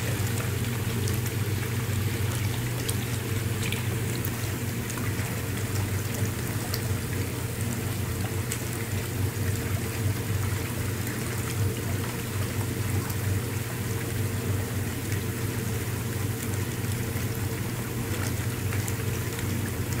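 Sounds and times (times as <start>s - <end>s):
bath jets bubbling water: 0.0s - 20.0s
pump motor humming: 0.0s - 20.0s.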